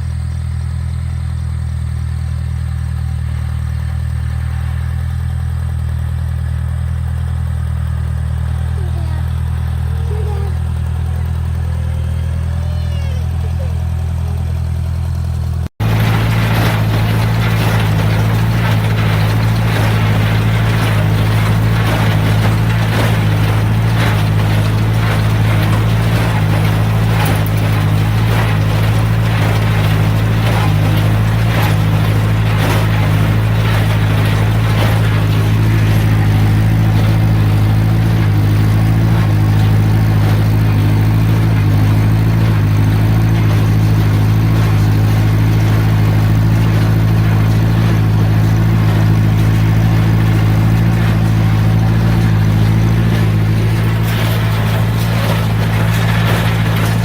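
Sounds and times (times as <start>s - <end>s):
tractor engine running: 0.0s - 57.0s
machinery clattering knocks: 8.5s - 57.0s.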